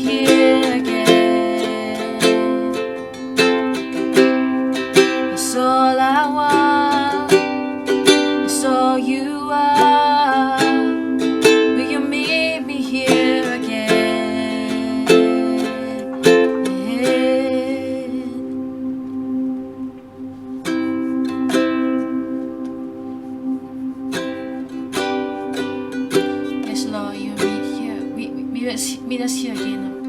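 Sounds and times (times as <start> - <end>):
plucked string instrument strumming: 0.0 - 30.0
sustained chord: 0.0 - 30.0.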